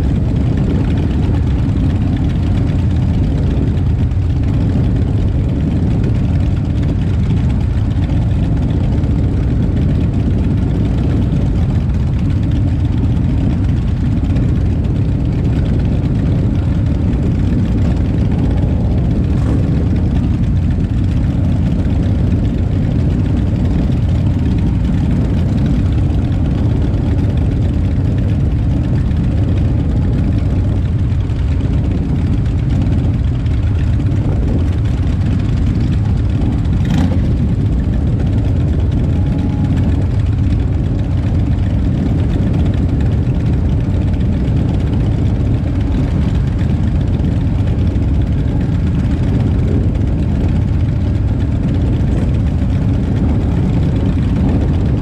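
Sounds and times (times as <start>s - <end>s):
motorcycles idling: 0.0s - 55.0s.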